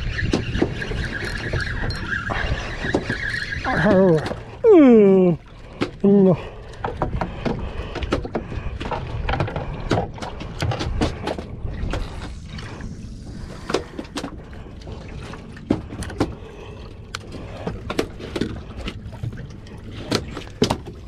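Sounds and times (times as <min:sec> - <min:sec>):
knocks and clicks of boat handling: 0:00.0 - 0:12.8, 0:13.4 - 0:21.0
low rumble of wind and water: 0:00.0 - 0:21.0.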